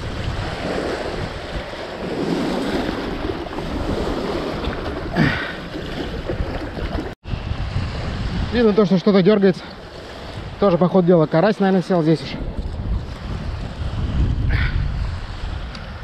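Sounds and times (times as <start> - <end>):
water washing against shore: 0.0 - 16.0
wind buffeting microphone: 0.0 - 16.0.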